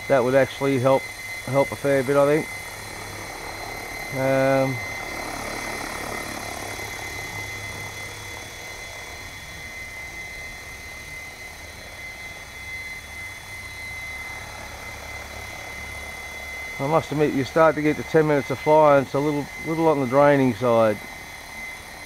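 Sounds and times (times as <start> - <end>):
high motor whine: 0.0 - 22.0
rc helicopter rotor hum: 0.0 - 22.0.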